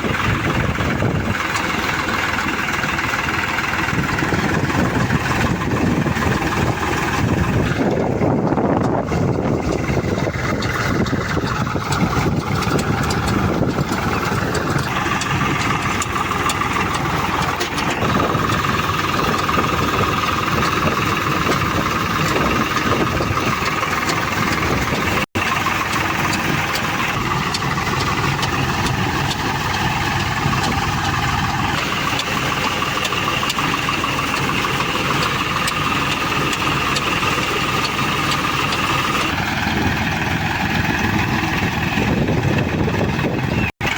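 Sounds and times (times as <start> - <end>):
engine running with whine: 0.0 - 43.9.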